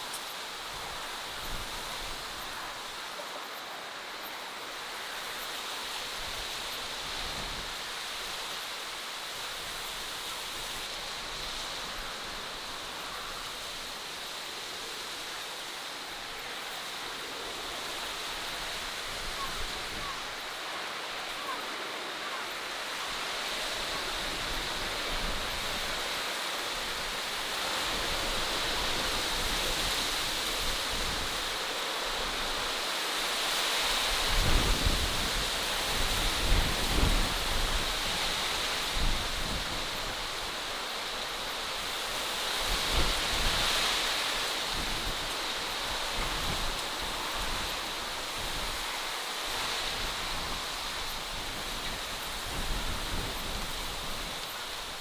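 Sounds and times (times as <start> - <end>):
outdoor nature rushing hiss: 0.0 - 55.0.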